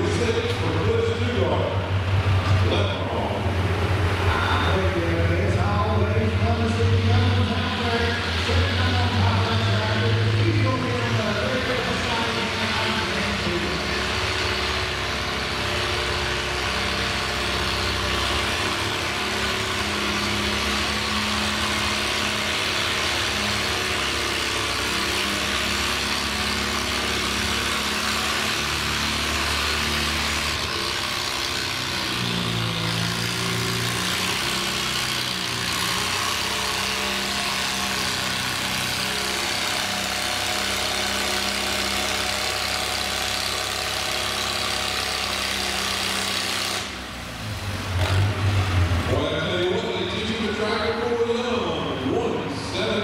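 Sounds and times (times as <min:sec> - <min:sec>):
tractor engine under load: 0:00.0 - 0:53.0.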